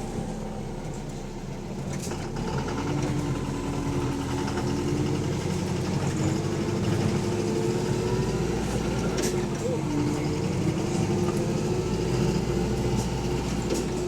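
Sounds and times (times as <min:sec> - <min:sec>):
diesel engine with rod knock: 0:00.0 - 0:14.0.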